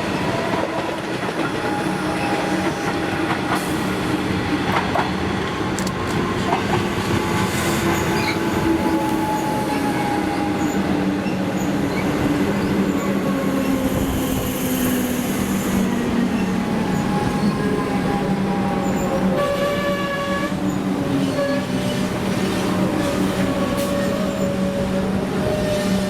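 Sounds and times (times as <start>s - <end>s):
electric train whine: 0.0s - 26.0s.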